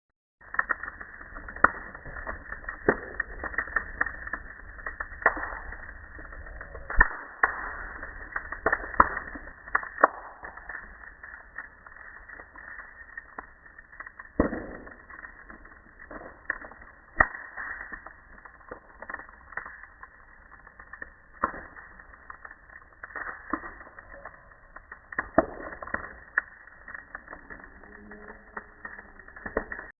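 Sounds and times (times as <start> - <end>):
bonfire crackling and popping: 0.4 - 30.0.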